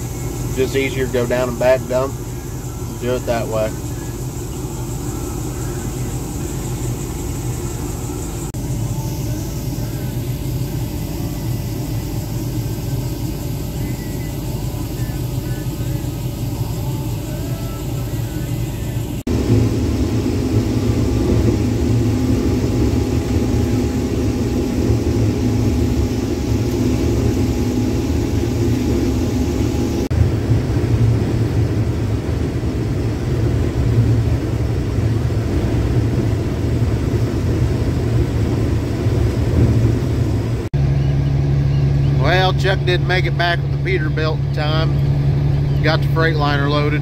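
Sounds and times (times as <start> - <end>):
combine engine and threshing drone: 0.0 - 47.0.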